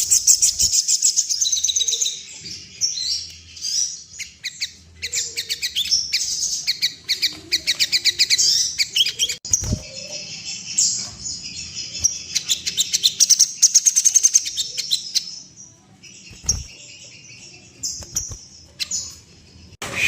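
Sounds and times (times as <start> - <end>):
songbird chattering song: 0.0 - 20.0.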